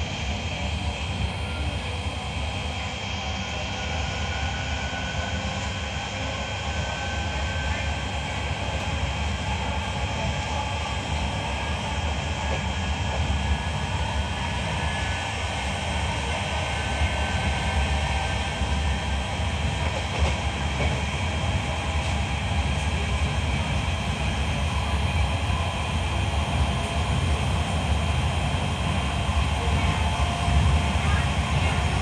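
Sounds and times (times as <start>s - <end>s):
train wheels rumbling on rails: 3.2s - 32.0s.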